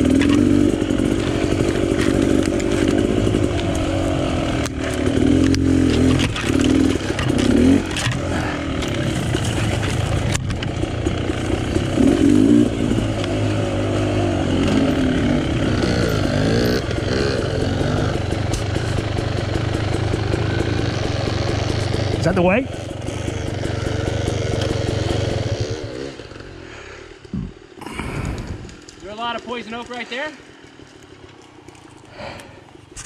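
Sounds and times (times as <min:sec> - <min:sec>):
dirt bike engine revving: 0:00.0 - 0:31.3.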